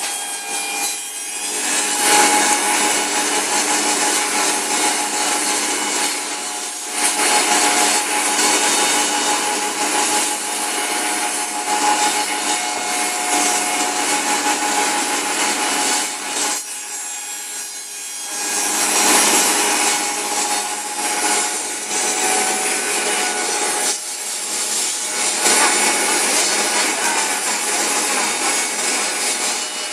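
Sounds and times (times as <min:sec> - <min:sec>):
milling machine cutting: 0:00.0 - 0:29.9.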